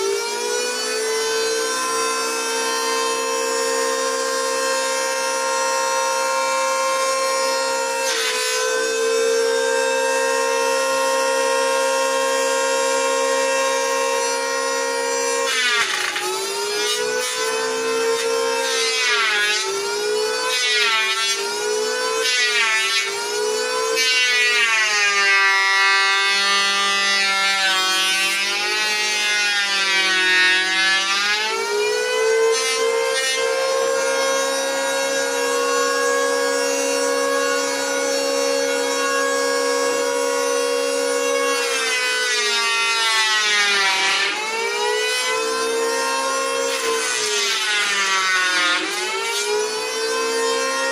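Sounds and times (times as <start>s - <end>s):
electric wood planer whining: 0.0s - 50.9s.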